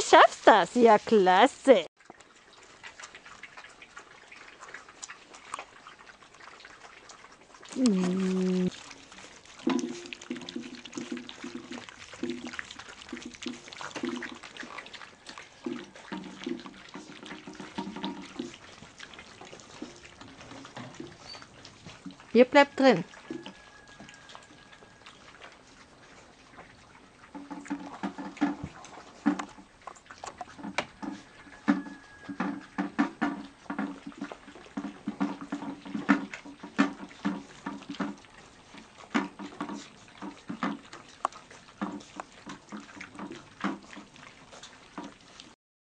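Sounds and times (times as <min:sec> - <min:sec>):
puppies lapping and chewing food: 0:00.0 - 0:45.6.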